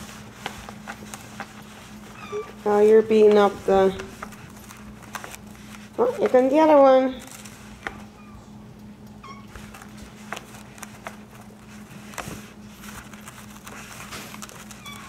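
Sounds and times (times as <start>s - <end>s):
paws tapping and scuffing paper: 0.0s - 8.2s, 9.5s - 15.0s.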